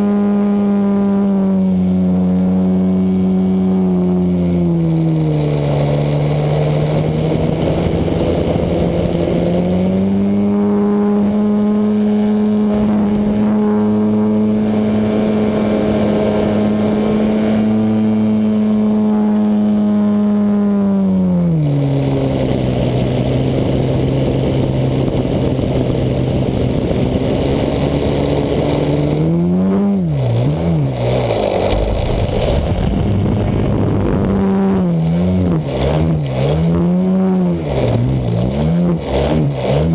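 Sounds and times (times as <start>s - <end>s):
model plane engine revving: 0.0s - 39.9s.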